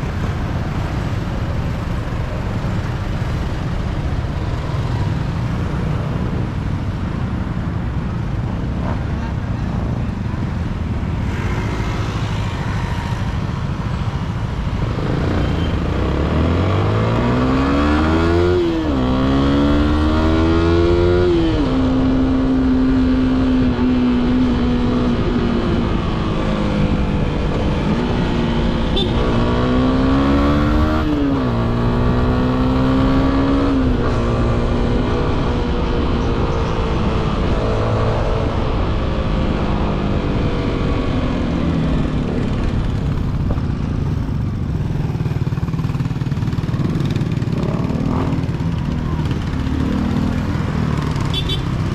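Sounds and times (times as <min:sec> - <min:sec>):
road noise: 0:00.0 - 0:51.9
motorcycle engine: 0:08.8 - 0:51.9.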